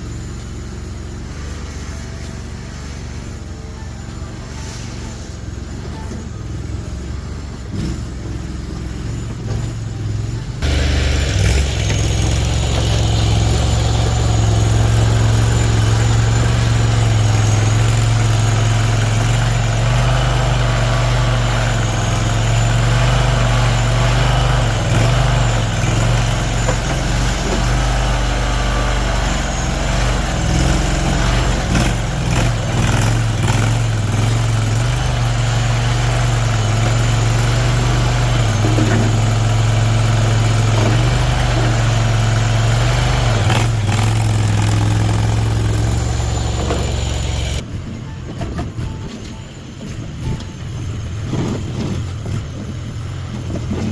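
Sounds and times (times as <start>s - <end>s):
small engine running: 0.0s - 47.6s.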